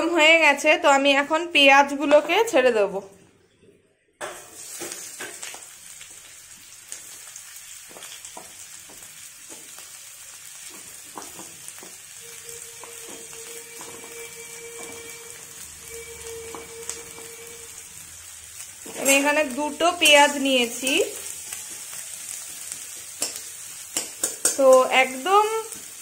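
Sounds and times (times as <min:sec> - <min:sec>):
onions sizzling in hot fat: 0:04.2 - 0:26.0.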